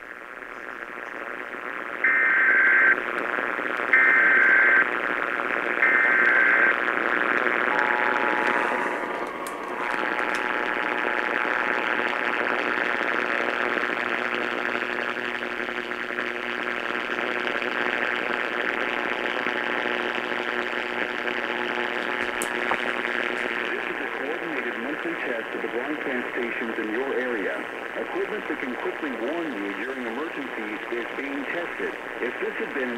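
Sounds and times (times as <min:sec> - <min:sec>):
radio static hiss: 0:00.0 - 0:32.9.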